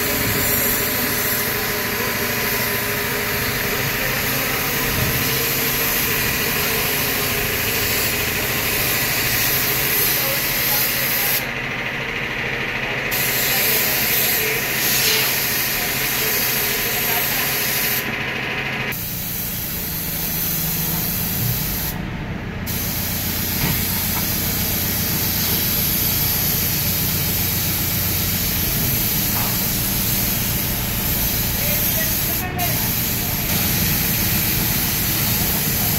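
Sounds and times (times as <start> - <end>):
spray gun hissing: 0.0 - 11.5, 13.1 - 18.1, 18.9 - 22.0, 22.7 - 35.9.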